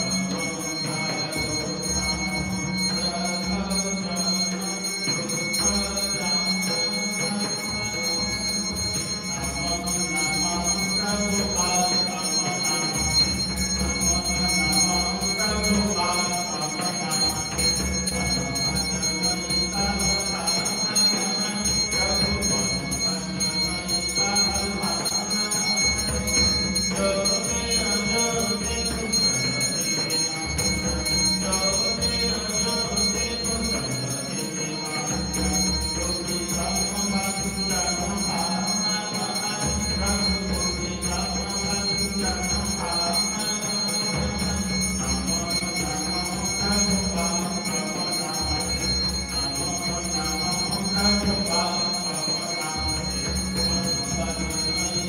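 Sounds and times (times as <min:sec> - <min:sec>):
hand bell ringing: 0:00.0 - 0:55.0.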